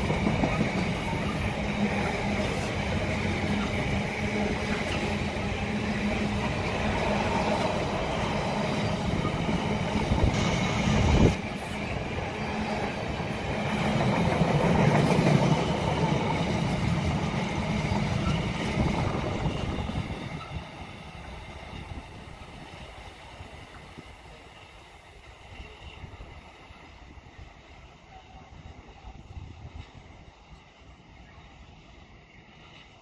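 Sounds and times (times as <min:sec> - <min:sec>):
train rumbling past: 0:00.0 - 0:33.0.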